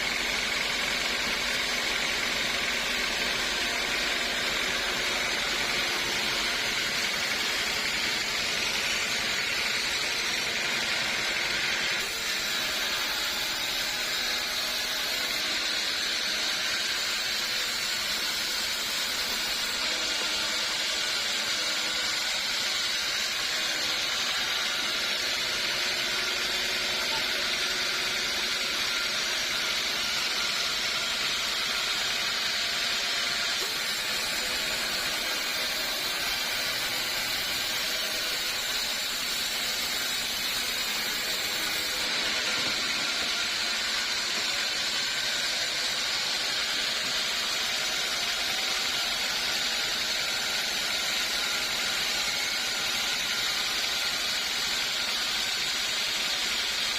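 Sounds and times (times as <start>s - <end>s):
saw cutting wood hissing: 0.0s - 56.9s.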